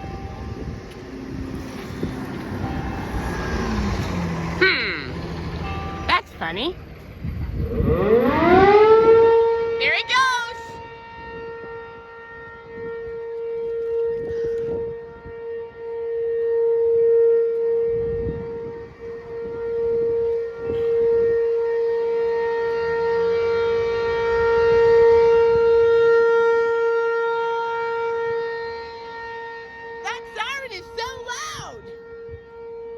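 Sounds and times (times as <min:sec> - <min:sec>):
tornado warning siren: 0:00.0 - 0:32.9.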